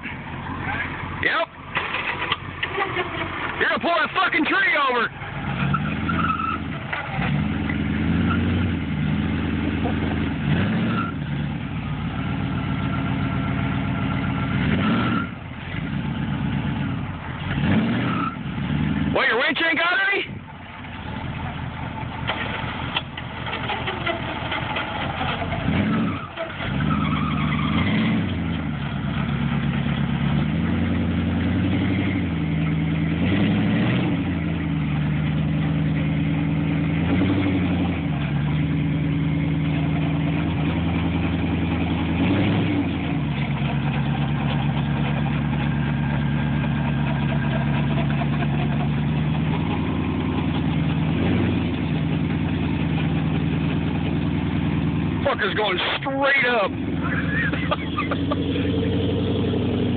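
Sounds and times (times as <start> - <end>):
pickup truck engine revving: 0.0 - 59.9.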